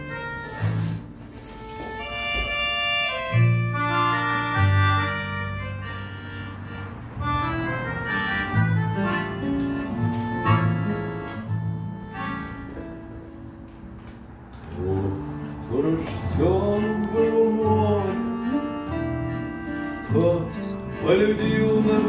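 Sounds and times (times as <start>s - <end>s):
accordion chords and melody: 0.0s - 22.0s
acoustic guitar accompaniment: 0.0s - 22.0s.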